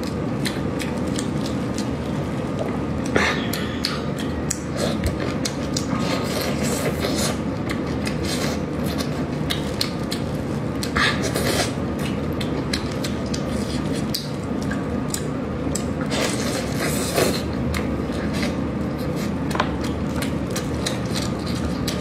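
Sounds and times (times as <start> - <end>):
wet chewing and lip smacks: 0.0 - 22.0.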